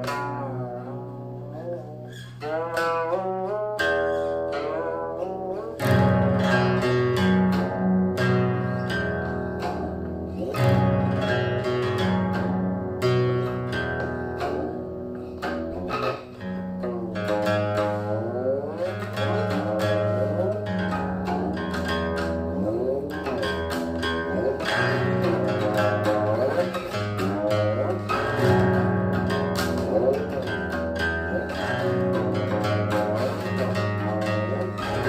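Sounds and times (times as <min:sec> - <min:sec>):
plucked zither with sliding notes: 0:00.0 - 0:35.0.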